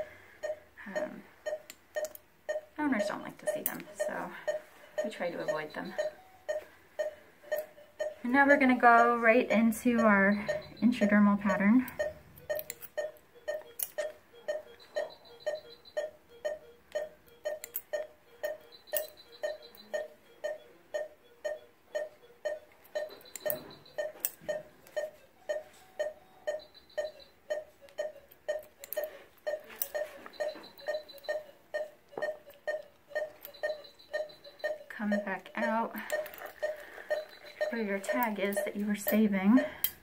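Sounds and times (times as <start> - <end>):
higher-pitched pips: 0.0 - 39.8
patient monitor beeping: 0.0 - 40.0
surgical instruments clicking: 1.4 - 8.2, 9.9 - 40.0.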